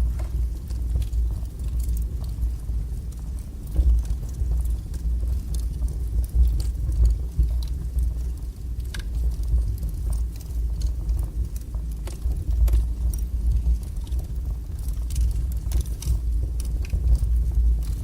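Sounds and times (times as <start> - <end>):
fire low rumble: 0.0 - 18.0
wood fire crackling and popping: 0.0 - 18.0.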